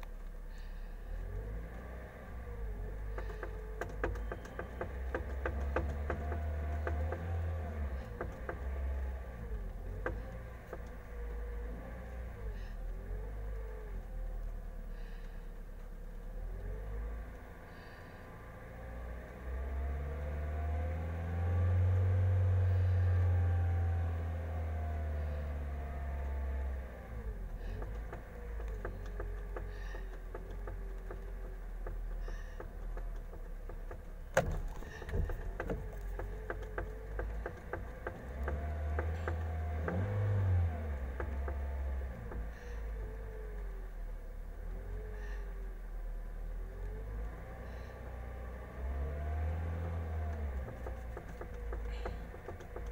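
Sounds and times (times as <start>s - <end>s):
car engine droning: 0.0s - 52.9s
car knocking and rattling: 0.0s - 52.9s.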